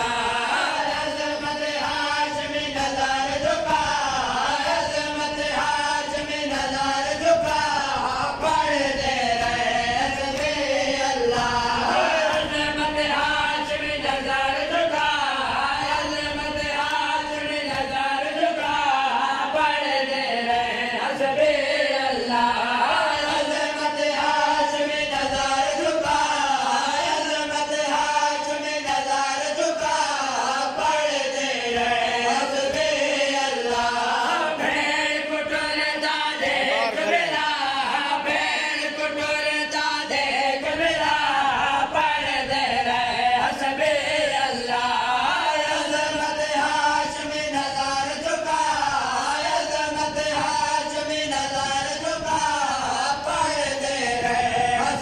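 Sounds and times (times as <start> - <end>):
men chanting a lament in unison: 0.0 - 55.0
rhythmic chest-beating: 0.0 - 55.0.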